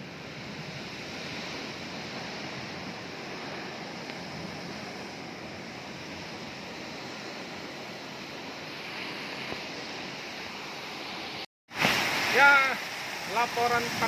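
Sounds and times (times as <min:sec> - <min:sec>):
heavy rain in windstorm: 0:00.0 - 0:14.0.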